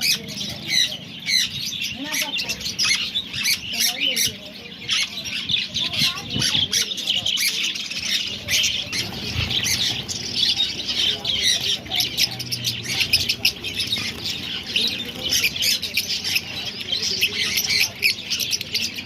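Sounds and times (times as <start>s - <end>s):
birds squawking and chirping: 0.0s - 19.0s.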